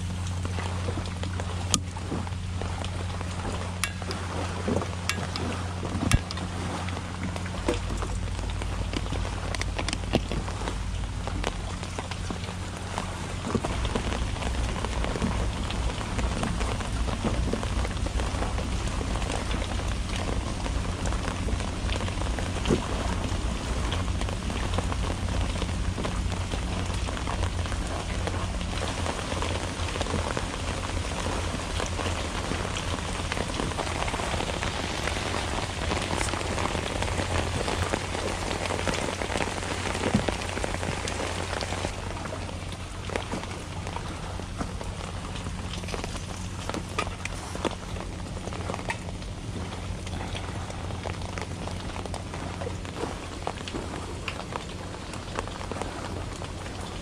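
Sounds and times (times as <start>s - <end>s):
rain pattering: 0.0s - 57.0s
steady low hum: 0.0s - 57.0s.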